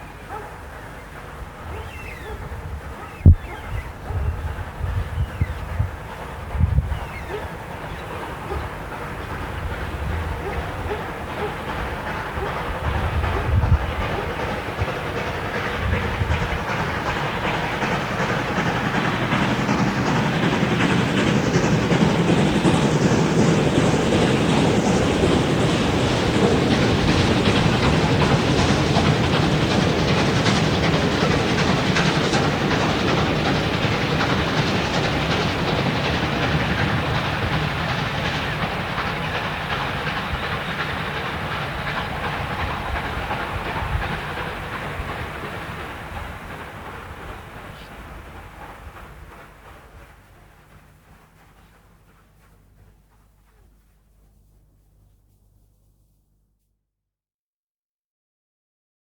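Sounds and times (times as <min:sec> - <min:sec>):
wheels clacking on rail joints: 0:00.0 - 0:55.3
steam locomotive exhaust: 0:00.0 - 0:55.7.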